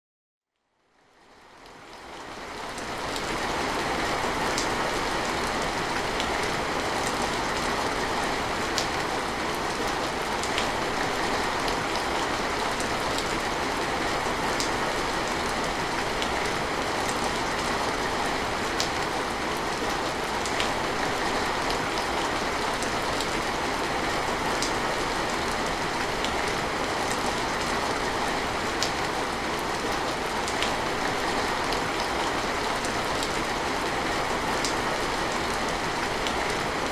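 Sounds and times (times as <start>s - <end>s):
rain falling: 1.4s - 36.9s.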